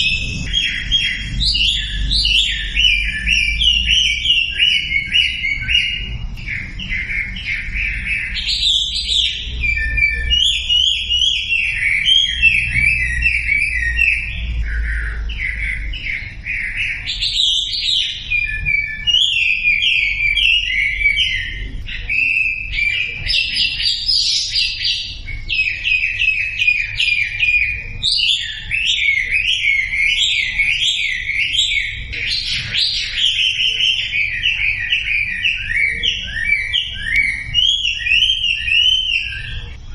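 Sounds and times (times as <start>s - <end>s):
songbird chirping song: 0.0s - 39.9s.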